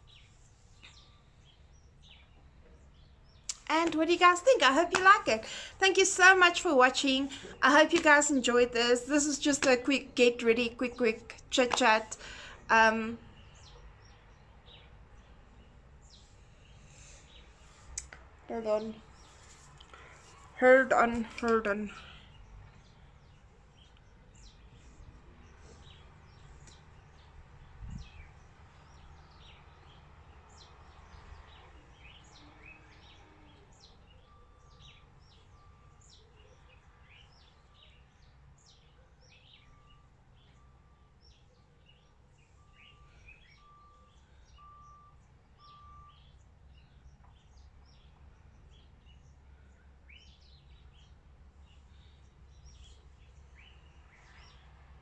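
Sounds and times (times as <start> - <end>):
faint birdsong chirps: 0.0 - 55.0.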